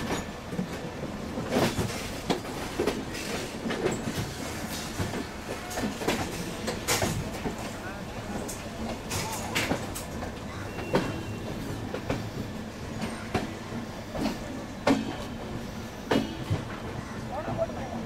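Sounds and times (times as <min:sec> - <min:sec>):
wheels clacking over rail joints: 0:00.0 - 0:17.9
train coaches rolling: 0:00.0 - 0:18.0.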